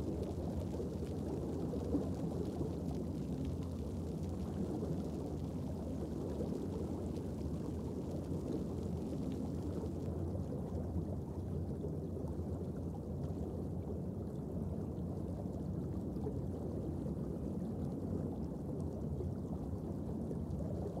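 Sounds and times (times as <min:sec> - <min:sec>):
underwater low rumble: 0:00.0 - 0:21.0.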